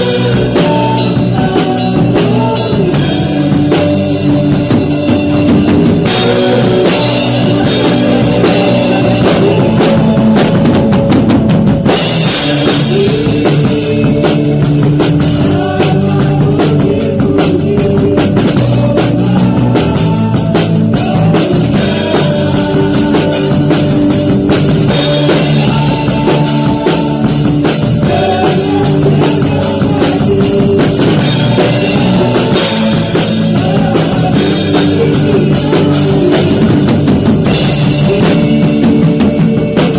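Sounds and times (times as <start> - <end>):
acoustic drum kit: 0.0 - 39.9
live band music: 0.0 - 39.9.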